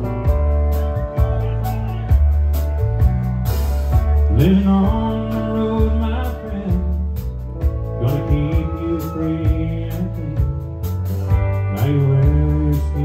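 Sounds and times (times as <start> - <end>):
drums: 0.0 - 13.0
electric guitar: 0.0 - 13.0
stage piano: 0.0 - 13.0.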